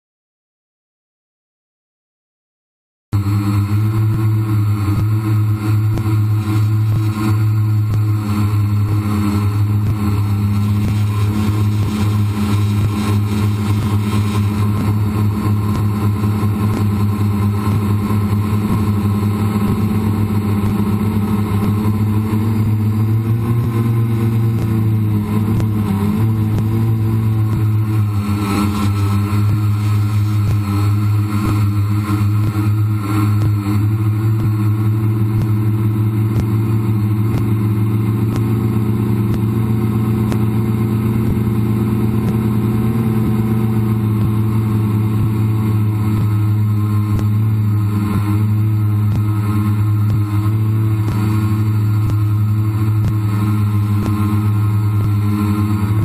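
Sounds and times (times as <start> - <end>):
quadcopter propellers buzzing: 3.2 - 56.0.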